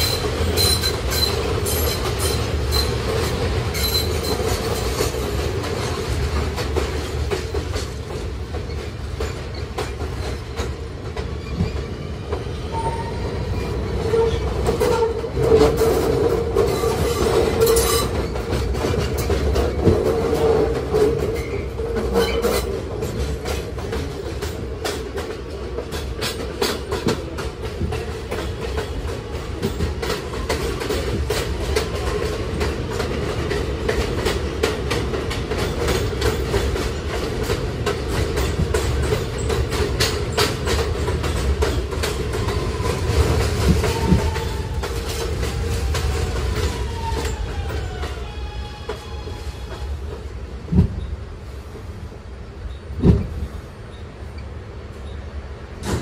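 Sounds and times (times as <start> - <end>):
wheels clacking over rail joints: 0.0 - 51.1
subway car rumbling: 0.0 - 56.0.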